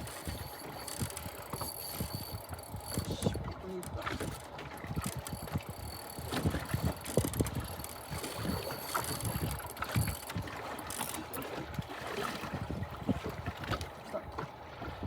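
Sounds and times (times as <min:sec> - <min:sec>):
wind buffeting microphone: 0:00.0 - 0:10.6, 0:11.5 - 0:13.9.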